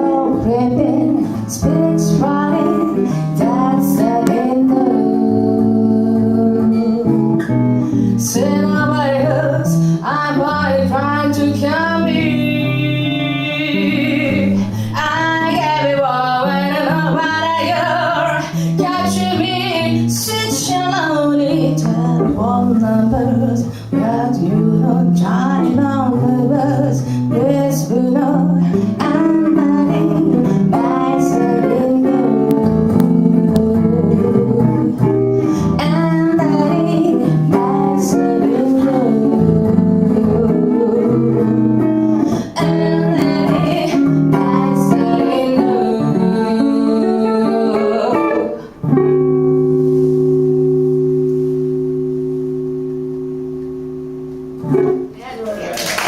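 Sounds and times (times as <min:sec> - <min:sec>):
woman singing: 0:00.0 - 0:49.3
swing guitar playing: 0:00.0 - 0:55.7.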